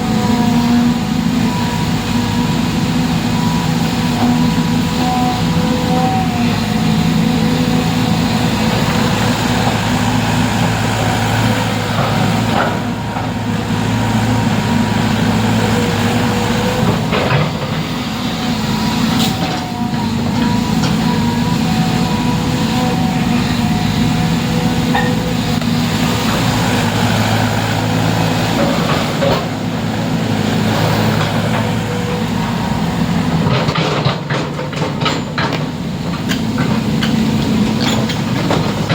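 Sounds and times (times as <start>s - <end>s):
large engine running: 0.0s - 38.9s.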